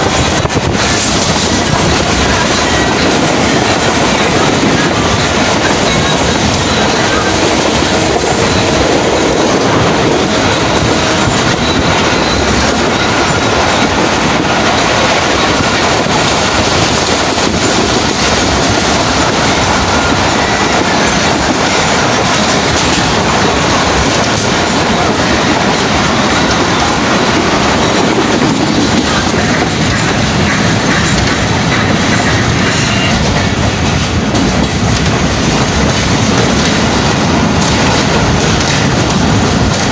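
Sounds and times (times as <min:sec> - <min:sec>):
train wheels rolling on track: 0:00.0 - 0:39.9.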